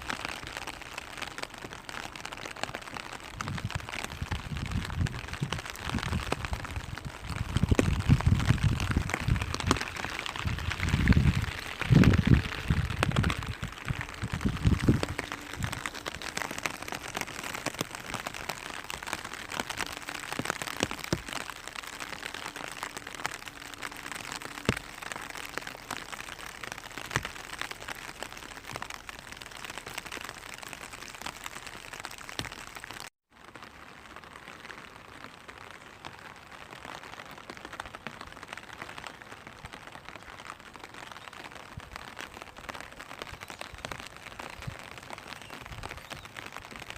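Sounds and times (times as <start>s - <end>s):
rain pattering on plastic umbrella: 0.0s - 46.9s.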